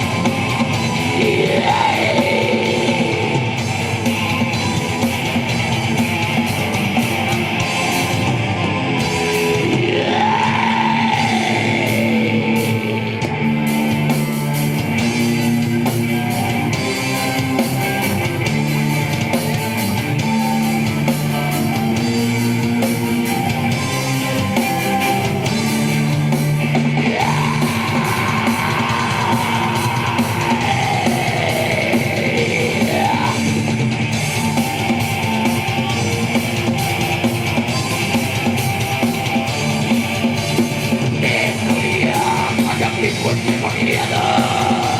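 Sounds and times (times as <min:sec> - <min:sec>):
distorted electric guitars: 0:00.0 - 0:44.9
drum kit: 0:00.0 - 0:44.9.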